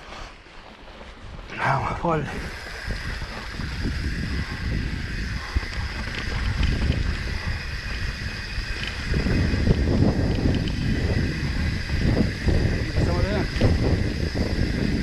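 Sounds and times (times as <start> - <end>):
mountain bike rumbling on trail: 0.0 - 15.0
wind buffeting microphone: 0.0 - 15.0.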